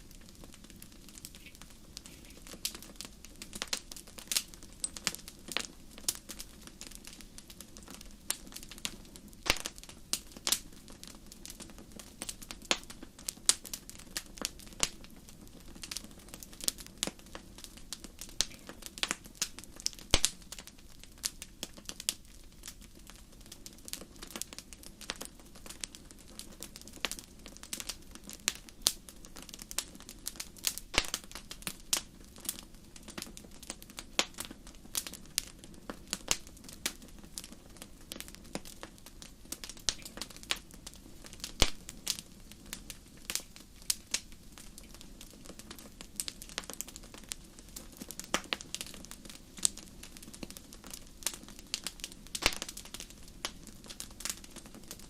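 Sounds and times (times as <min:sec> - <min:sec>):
low hiss of burning: 0:00.0 - 0:55.0
wood fire crackling: 0:00.0 - 0:55.0.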